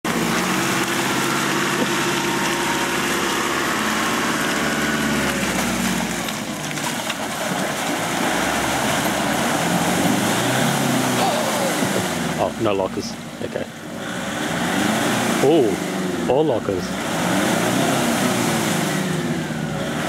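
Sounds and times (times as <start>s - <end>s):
engine running at low speed: 0.0s - 20.0s.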